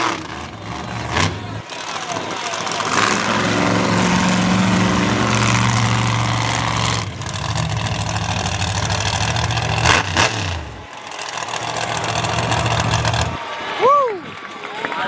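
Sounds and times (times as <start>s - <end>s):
sharp bangs: 0.0s - 13.4s
truck engine running: 0.0s - 13.8s.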